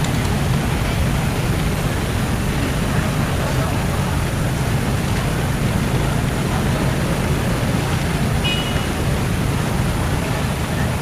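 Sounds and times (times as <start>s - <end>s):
boat engines rumbling: 0.0s - 11.0s
fast-flowing water: 0.0s - 11.0s.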